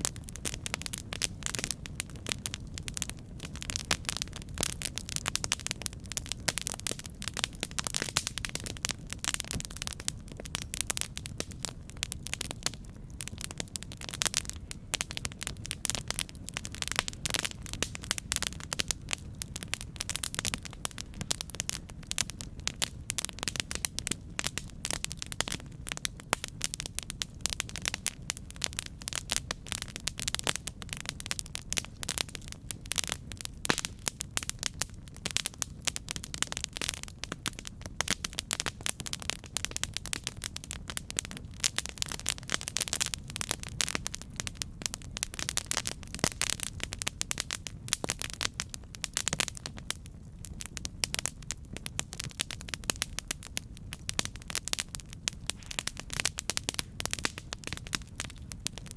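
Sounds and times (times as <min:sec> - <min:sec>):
campfire crackling and popping: 0:00.0 - 0:58.9.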